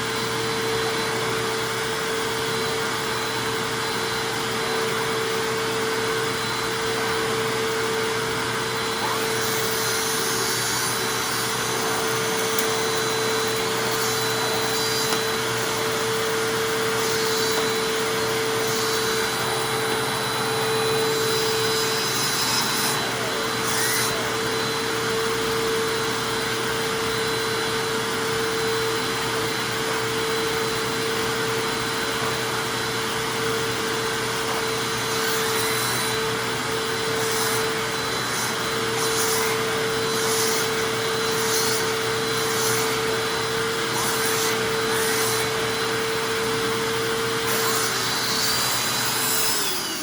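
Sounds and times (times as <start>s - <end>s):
vacuum cleaner motor whining: 0.0s - 50.0s.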